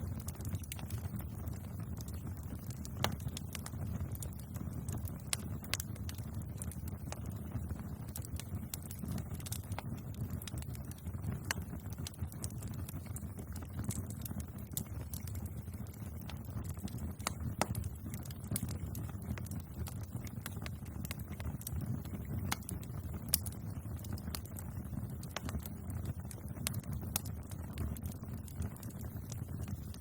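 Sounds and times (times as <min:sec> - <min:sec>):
bonfire flames rumbling: 0:00.0 - 0:30.0
wood crackling and popping: 0:00.0 - 0:30.0.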